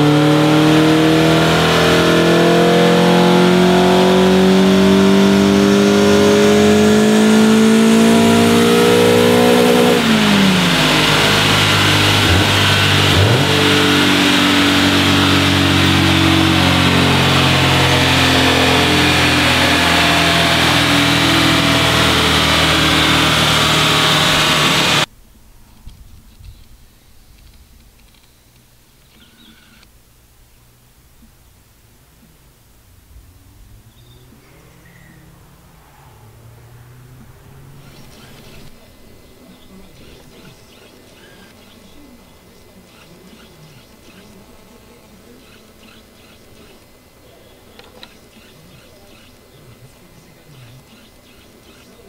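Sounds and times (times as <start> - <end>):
car engine revving under load: 0.0 - 25.1, 32.2 - 52.0.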